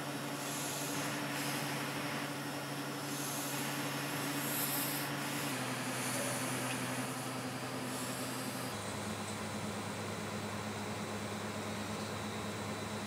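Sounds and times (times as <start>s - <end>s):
mechanical hum with hiss: 0.0s - 13.0s.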